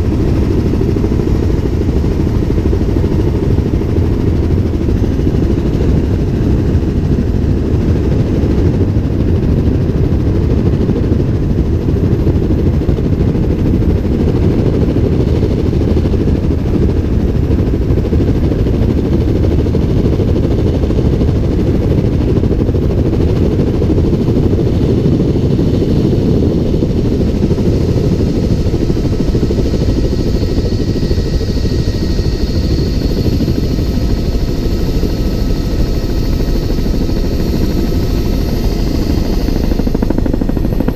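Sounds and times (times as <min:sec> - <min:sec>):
helicopter rotor and engine rumble: 0:00.0 - 0:40.9.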